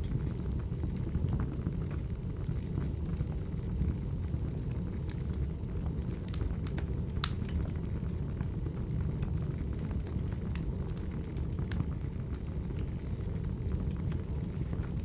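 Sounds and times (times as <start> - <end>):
wood fire burning: 0.0 - 15.0.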